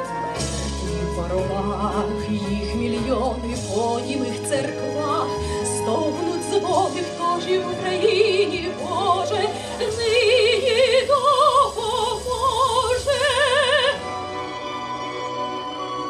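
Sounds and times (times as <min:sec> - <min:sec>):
sustained instrumental backing: 0:00.0 - 0:16.0
woman singing a lament: 0:01.0 - 0:14.1.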